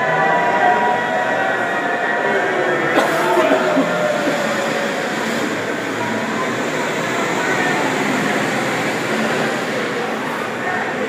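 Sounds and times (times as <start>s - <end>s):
street noise din: 0.0s - 11.0s.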